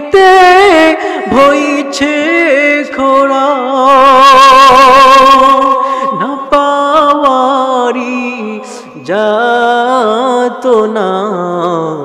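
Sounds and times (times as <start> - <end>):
man singing devotional song: 0.0 - 12.0.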